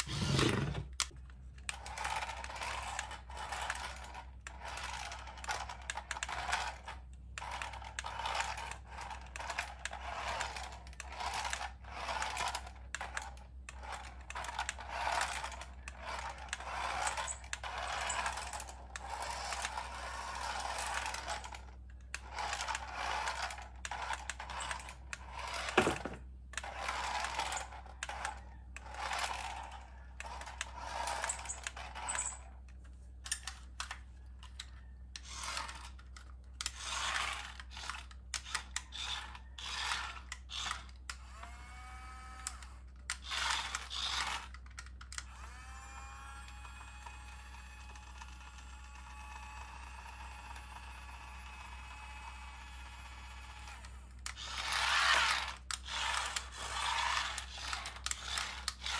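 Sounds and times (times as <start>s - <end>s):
toy car motor whirring: 0.0s - 58.9s.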